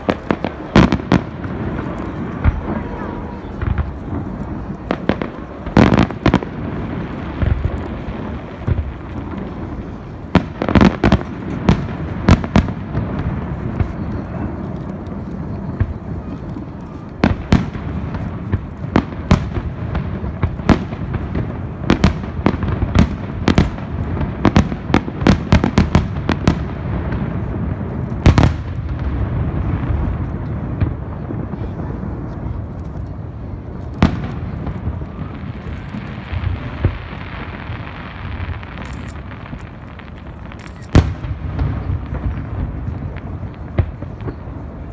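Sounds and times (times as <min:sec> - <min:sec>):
fireworks bangs: 0:00.0 - 0:44.9.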